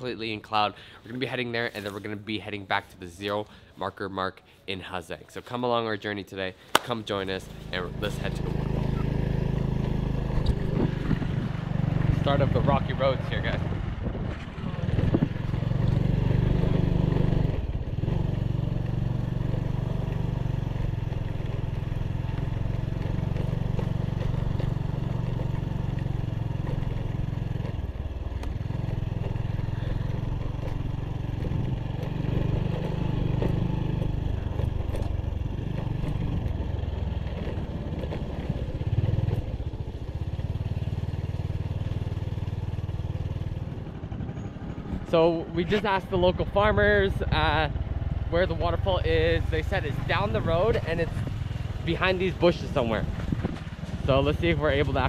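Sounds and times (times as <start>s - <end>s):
motorbike engine running: 7.0s - 55.0s.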